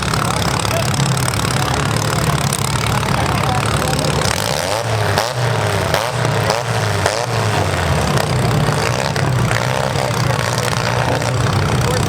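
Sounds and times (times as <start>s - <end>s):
car engines idling: 0.0s - 12.0s
engine revs: 0.0s - 12.0s.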